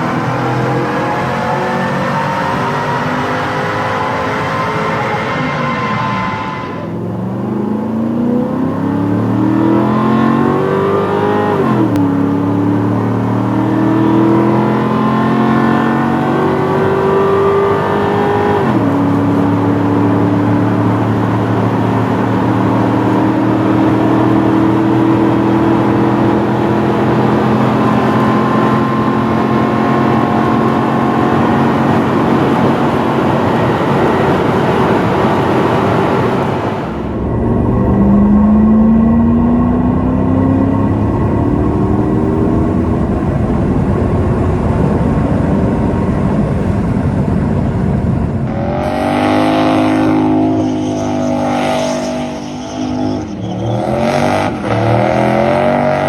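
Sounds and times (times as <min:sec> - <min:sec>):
car engine accelerating through gears: 0:00.0 - 0:56.0.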